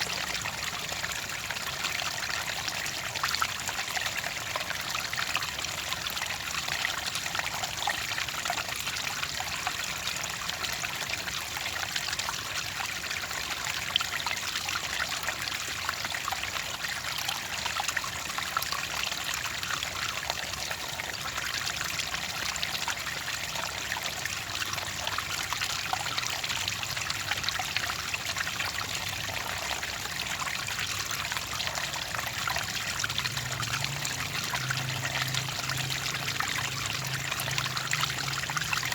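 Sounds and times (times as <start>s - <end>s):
water trickling and pouring: 0.0s - 38.9s.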